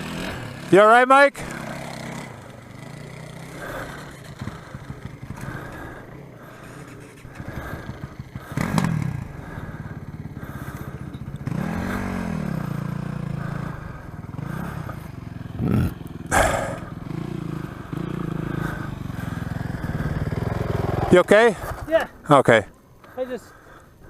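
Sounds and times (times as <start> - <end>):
engine revving: 0.0 - 21.5
dirt bike engine idling: 0.0 - 24.0.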